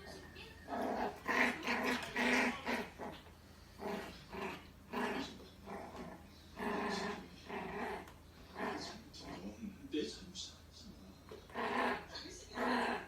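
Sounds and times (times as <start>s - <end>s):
puppy growling: 0.0s - 9.7s, 11.3s - 13.0s.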